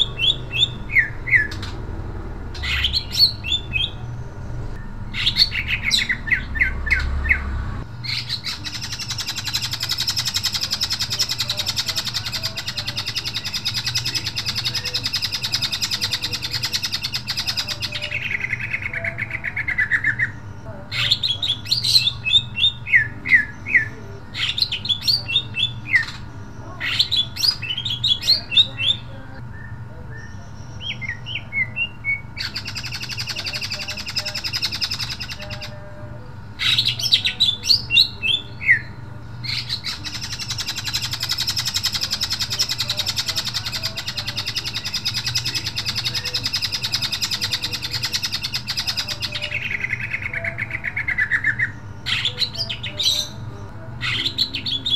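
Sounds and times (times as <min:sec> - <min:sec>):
bird singing with rattling trills: 0:00.0 - 0:54.9.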